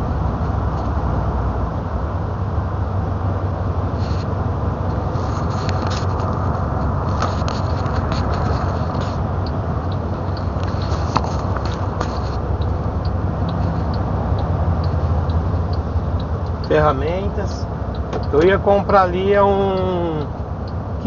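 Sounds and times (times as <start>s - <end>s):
truck engine and road drone: 0.0s - 21.0s.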